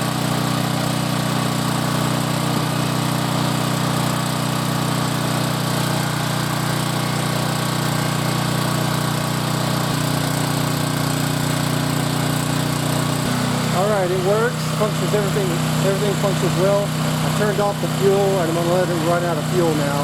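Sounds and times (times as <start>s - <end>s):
generator engine running: 0.0s - 20.0s.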